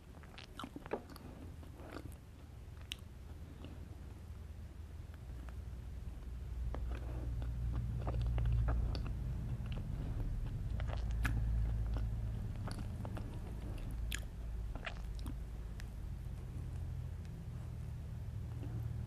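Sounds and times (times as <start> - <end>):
low hum: 0.0 - 19.0
person chewing cake: 0.0 - 19.0.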